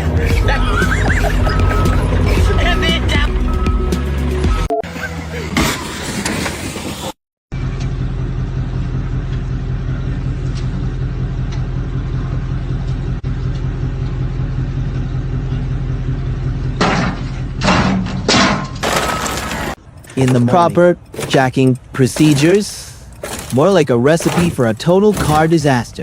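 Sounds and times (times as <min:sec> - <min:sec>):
car engine idling: 0:00.0 - 0:05.5, 0:07.5 - 0:26.0
harsh engine noises: 0:00.0 - 0:26.0.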